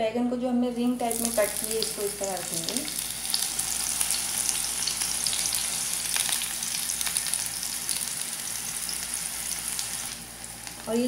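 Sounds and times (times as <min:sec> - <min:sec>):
eggplant sizzling in a frying pan: 0:00.8 - 0:11.0.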